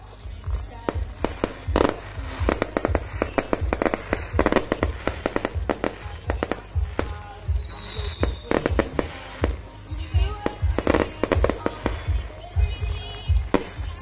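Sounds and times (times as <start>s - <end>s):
fireworks popping and crackling: 0.0s - 14.0s
music with low beat: 0.0s - 14.0s.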